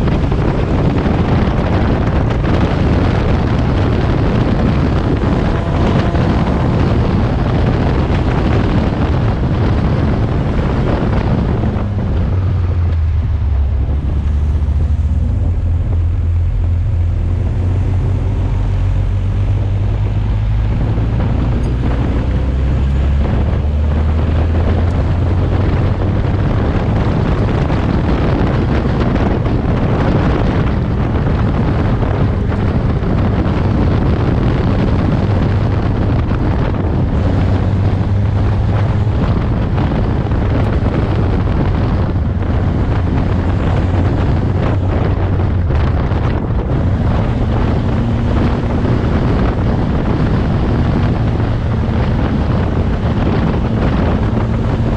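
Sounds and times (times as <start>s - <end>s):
race car engine running hard: 0.0s - 54.9s
wind buffeting microphone: 0.0s - 54.9s.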